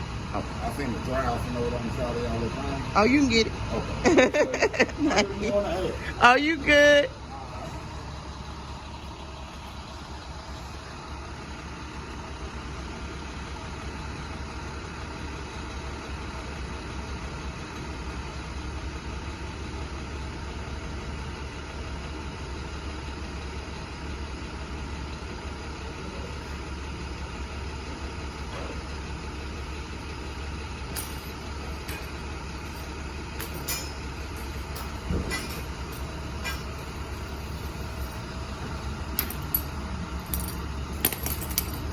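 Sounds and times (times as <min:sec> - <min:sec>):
truck engine idling: 0:00.0 - 0:41.9.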